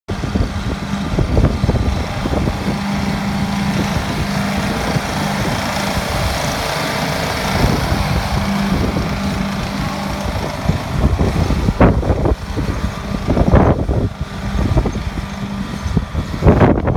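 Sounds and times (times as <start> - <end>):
skid steer engine hum: 0.1 - 16.9.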